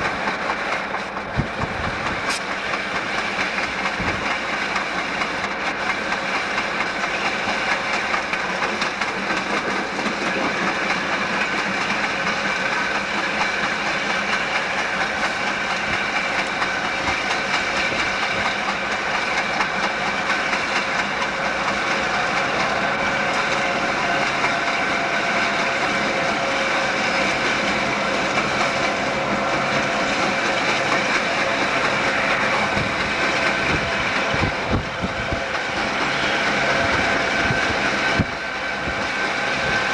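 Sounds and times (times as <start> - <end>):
diesel locomotive engines humming: 0.0 - 39.9
rhythmic thumping of flat wheel: 0.0 - 39.9
wheel and rail noise: 0.0 - 39.9.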